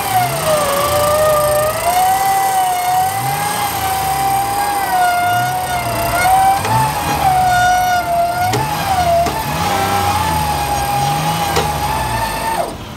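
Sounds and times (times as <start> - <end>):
electric winch motor whining: 0.0 - 12.9.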